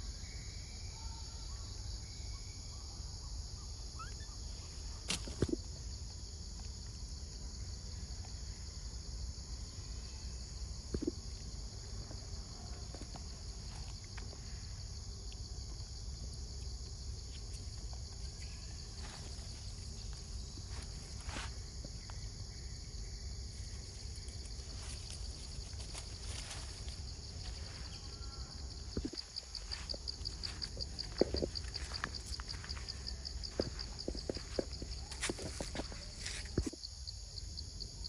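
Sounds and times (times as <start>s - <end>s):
high-pitched insect chorus: 0.0s - 38.0s.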